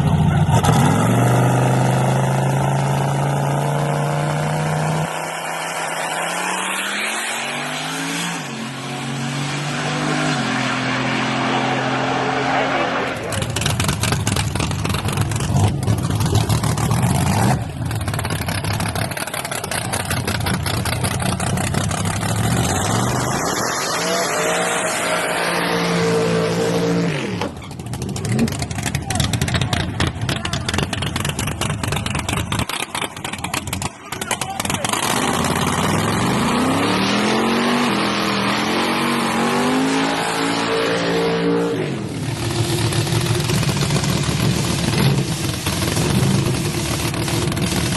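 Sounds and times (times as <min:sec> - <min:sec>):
engine running and revving: 0:00.0 - 0:47.9
truck engine at full throttle: 0:00.0 - 0:47.9.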